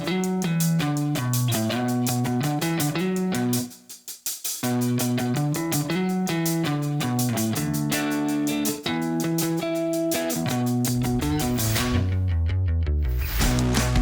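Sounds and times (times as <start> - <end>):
plucked guitar music with beat: 0.0 - 4.0, 4.6 - 14.0.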